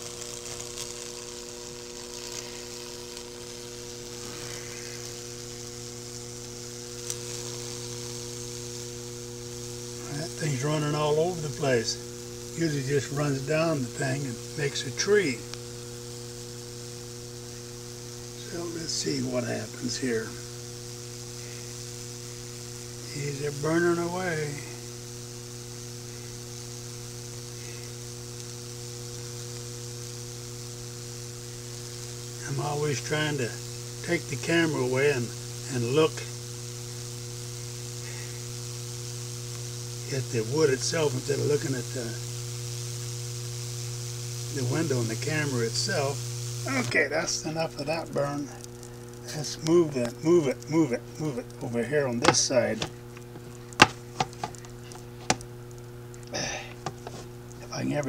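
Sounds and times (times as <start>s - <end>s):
sharp electric snap: 0.0s - 57.8s
electric arc sizzling and crackling: 0.0s - 58.0s
transformer humming: 0.0s - 58.0s.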